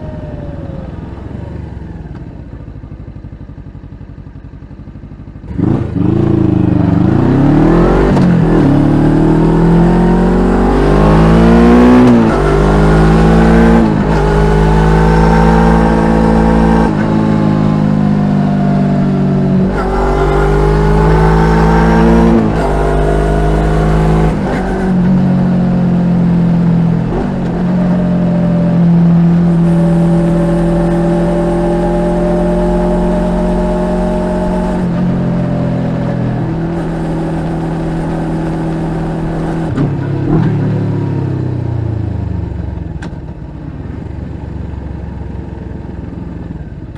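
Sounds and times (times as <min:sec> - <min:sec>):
motorcycle engine shifting gears: 0:00.0 - 0:46.9.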